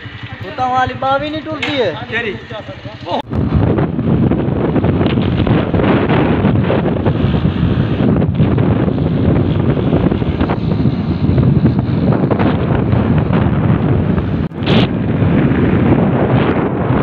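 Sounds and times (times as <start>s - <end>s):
motorcycle running: 0.0s - 17.0s
wind buffeting microphone: 0.0s - 17.0s.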